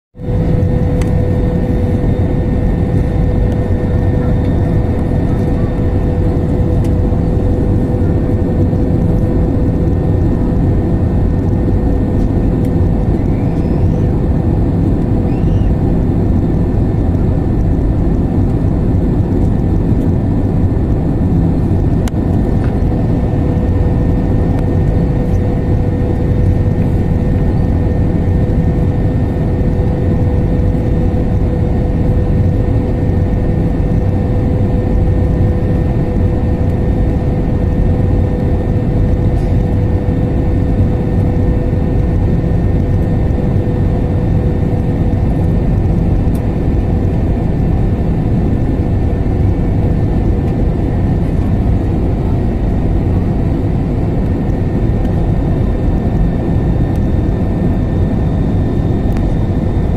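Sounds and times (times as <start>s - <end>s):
airliner cabin engine rumble: 0.2s - 59.9s
steady hum: 0.2s - 59.9s.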